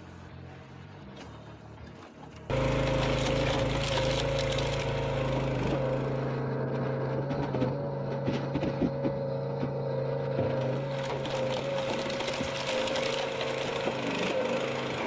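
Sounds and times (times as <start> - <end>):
machine engine running steadily: 0.0 - 15.0.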